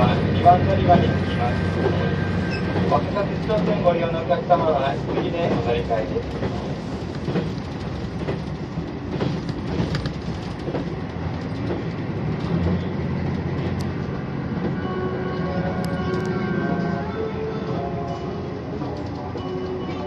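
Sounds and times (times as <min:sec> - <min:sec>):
diesel railcar rumble: 0:00.0 - 0:20.0.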